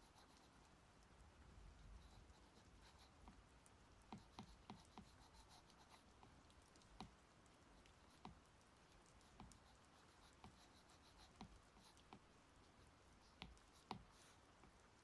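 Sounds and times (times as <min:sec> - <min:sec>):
quiet steady hiss: 0:00.0 - 0:15.0.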